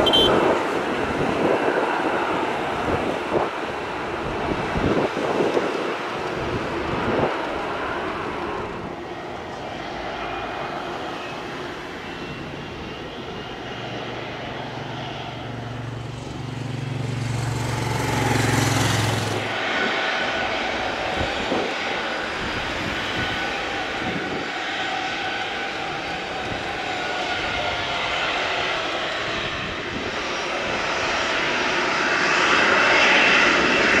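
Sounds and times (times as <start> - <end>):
jet engines low hum: 0.0 - 34.0
wind gusts on microphone: 0.0 - 34.0.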